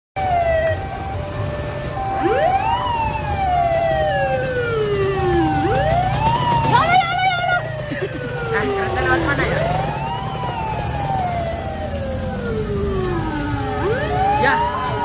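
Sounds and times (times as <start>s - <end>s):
engine rumble: 0.2s - 15.0s
fire engine siren wailing: 0.2s - 15.0s
harsh warbling siren blast: 0.2s - 15.0s.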